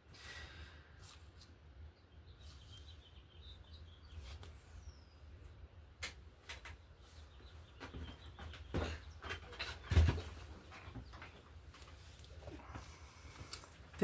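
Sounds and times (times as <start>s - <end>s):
faint bird chirping: 0.1s - 14.0s.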